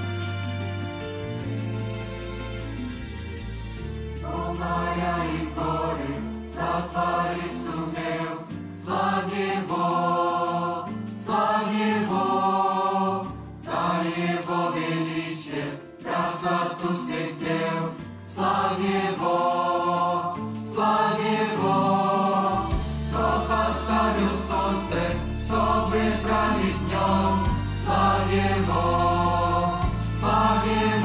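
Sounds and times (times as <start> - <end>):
choir singing: 4.2 - 31.0.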